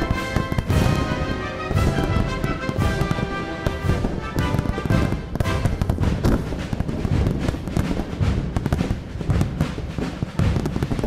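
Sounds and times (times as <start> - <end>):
deep fireworks booms: 0.0 - 11.0
fireworks bangs and crackle: 0.0 - 11.0
music playing: 0.0 - 11.0.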